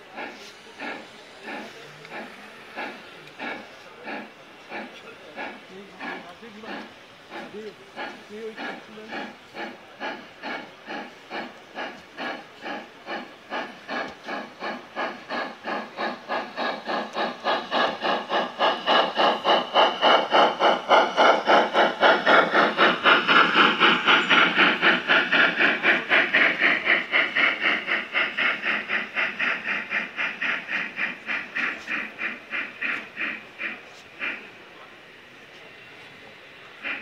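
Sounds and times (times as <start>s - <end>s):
model steam locomotive chuffing: 0.0s - 37.0s
steam hiss: 0.0s - 37.0s.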